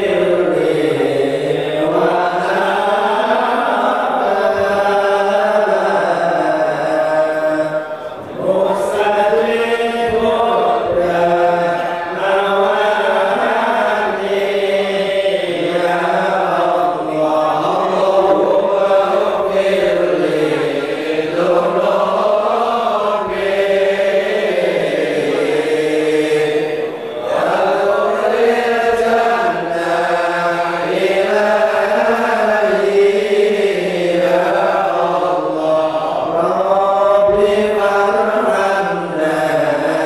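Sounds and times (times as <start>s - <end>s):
men chanting together: 0.0s - 40.0s.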